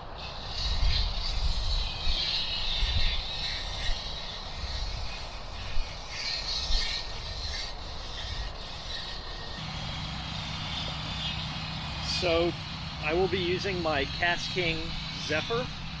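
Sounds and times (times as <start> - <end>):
low traffic rumble: 0.0 - 16.0
tyres hissing on highway: 0.0 - 16.0.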